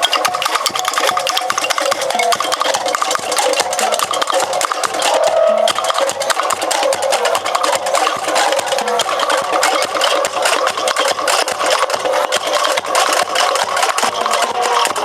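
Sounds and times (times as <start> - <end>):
percussion band drumming fast: 0.0 - 15.0.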